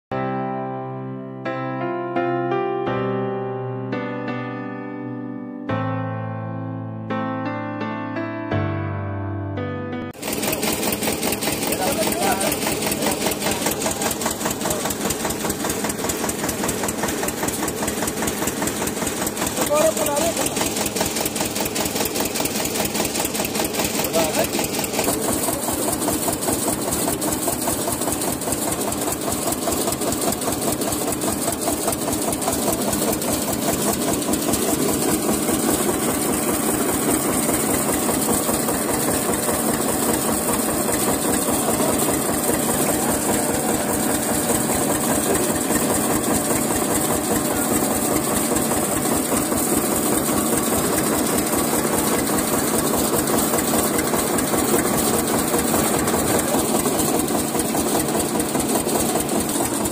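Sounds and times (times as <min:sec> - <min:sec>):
tractor engine running: 0:10.1 - 0:59.9.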